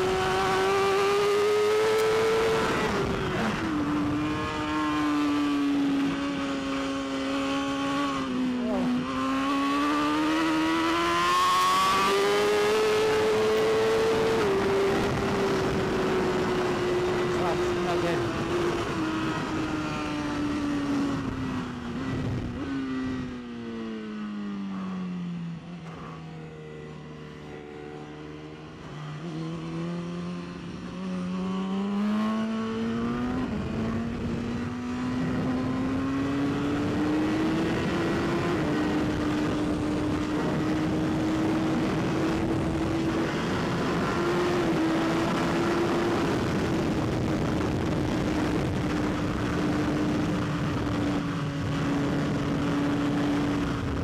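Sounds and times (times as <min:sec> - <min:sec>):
wind noise: 0:00.0 - 0:23.9, 0:29.8 - 0:54.0
motorcycle engine revving: 0:00.0 - 0:54.0.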